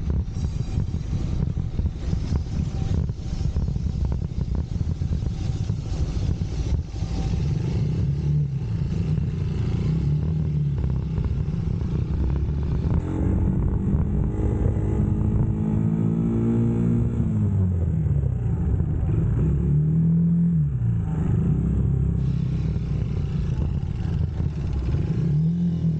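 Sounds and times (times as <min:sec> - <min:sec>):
wind rush over microphone: 0:00.0 - 0:19.7, 0:22.2 - 0:25.3
motorcycle engine running: 0:00.0 - 0:25.9.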